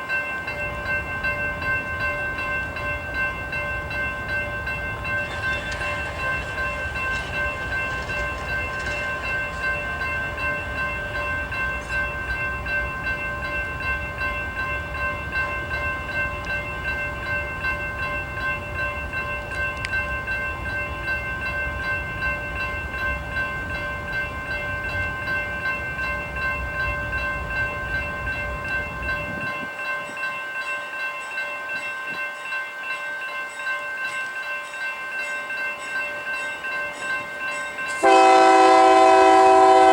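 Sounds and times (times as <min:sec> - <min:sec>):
freight train rumbling: 0:00.0 - 0:30.3, 0:35.6 - 0:39.9
steady high-pitched tones: 0:00.0 - 0:39.9.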